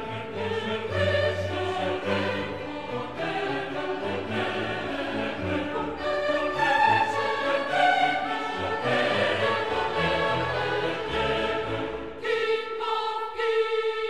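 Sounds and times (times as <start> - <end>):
choral singing with orchestra: 0.0 - 14.0.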